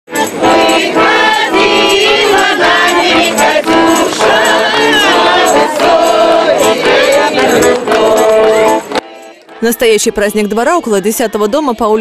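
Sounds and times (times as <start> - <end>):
steady percussive beat: 0.1 - 11.7
accordion: 0.1 - 12.0
women singing a folk song: 0.1 - 12.0.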